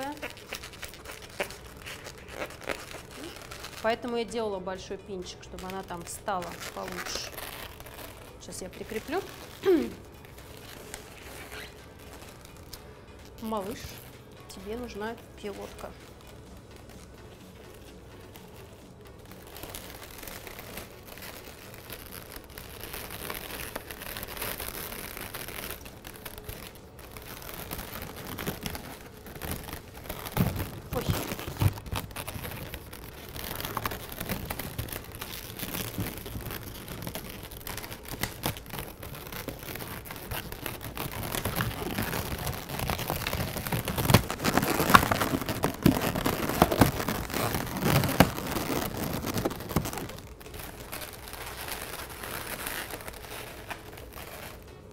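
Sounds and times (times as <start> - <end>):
balloons rubbing and crinkling: 0.0 - 54.9.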